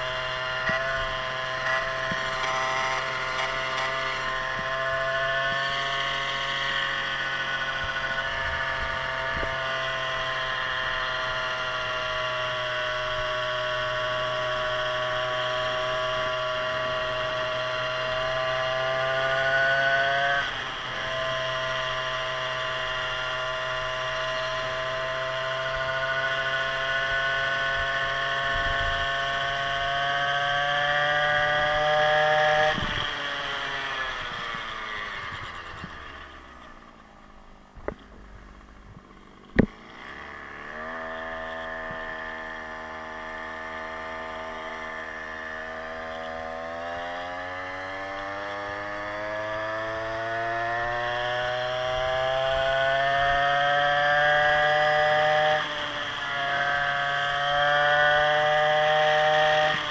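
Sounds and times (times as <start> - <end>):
scooter engine revving: 0.0 - 59.9.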